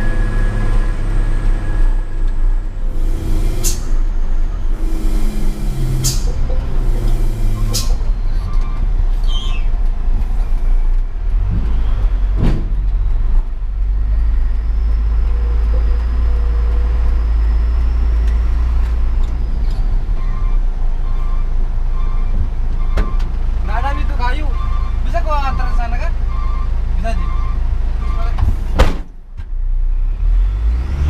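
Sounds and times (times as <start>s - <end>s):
diesel truck engine rumbling: 0.0s - 31.0s.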